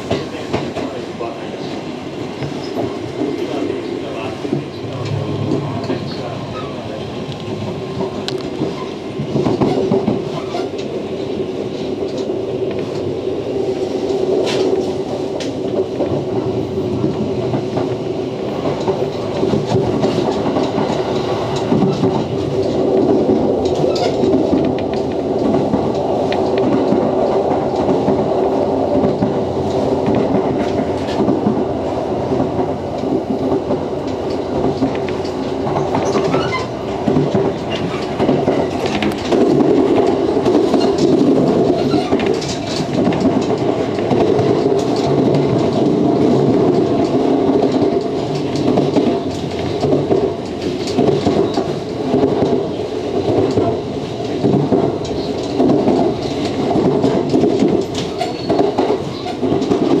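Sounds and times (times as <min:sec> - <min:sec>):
electric train hum: 0:00.0 - 1:00.0
wheels clicking over rail joints: 0:00.0 - 1:00.0.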